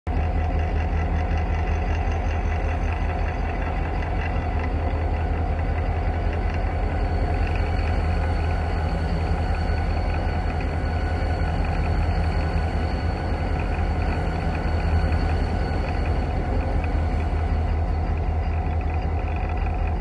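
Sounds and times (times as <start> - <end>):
train running with low rumble: 0.1 - 20.0.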